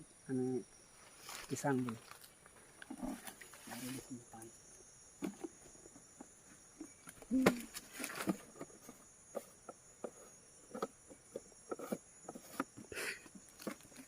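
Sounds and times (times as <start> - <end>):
forest insects droning: 0.0 - 14.0.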